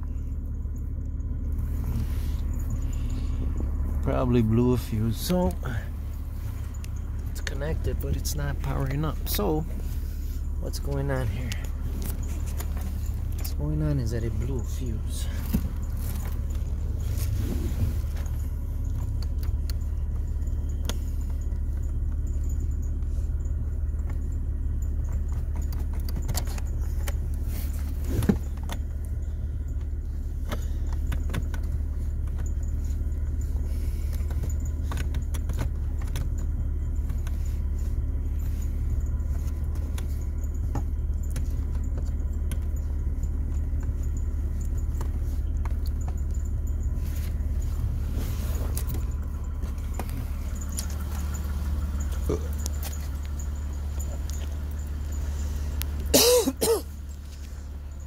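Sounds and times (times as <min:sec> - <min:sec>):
handling clicks and knocks: 0:00.0 - 0:58.0
steady low hum: 0:00.0 - 0:58.0.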